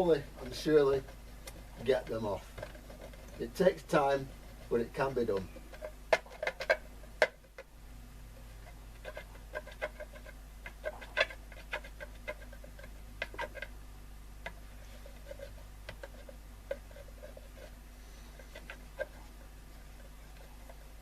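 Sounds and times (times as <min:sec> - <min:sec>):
stick scraping stickers: 0:00.0 - 0:07.7, 0:08.4 - 0:13.8, 0:14.4 - 0:21.0.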